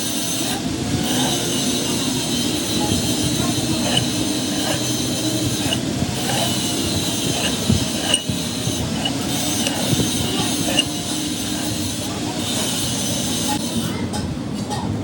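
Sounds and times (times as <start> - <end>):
machine with metallic whine: 0.0 - 14.0.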